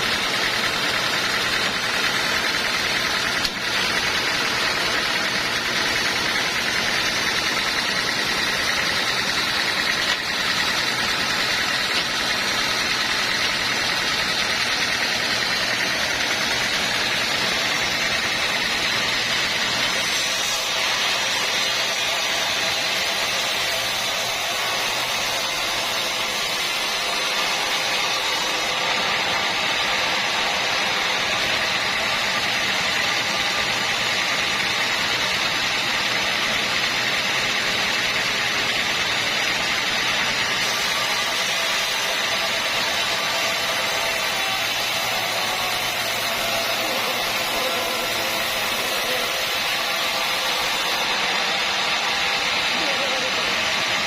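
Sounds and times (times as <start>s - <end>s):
sawmill machinery humming: 0.0s - 54.0s.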